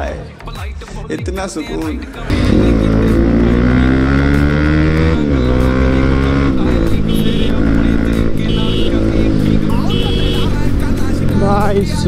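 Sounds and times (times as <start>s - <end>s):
motorcycle engine accelerating: 2.3s - 12.0s.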